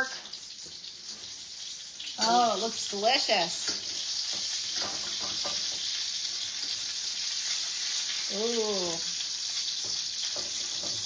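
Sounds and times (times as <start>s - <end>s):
meat frying in hot oil: 0.0s - 11.0s.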